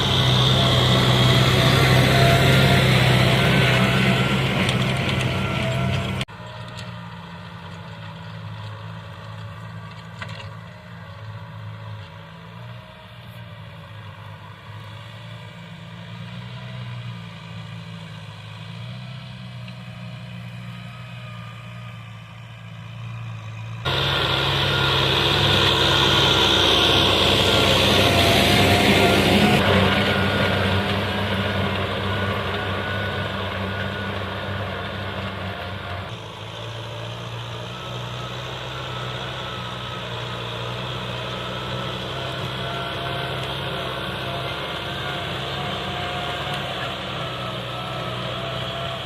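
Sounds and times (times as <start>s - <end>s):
tractor engine running: 0.0s - 49.0s.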